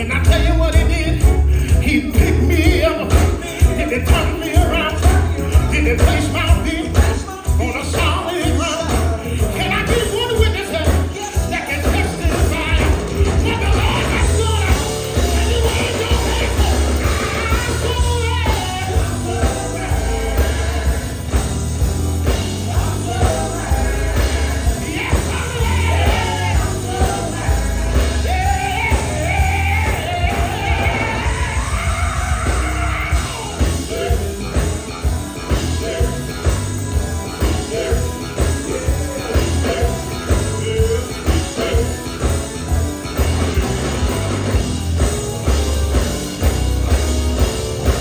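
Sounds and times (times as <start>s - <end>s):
live gospel band playing: 0.0s - 48.0s.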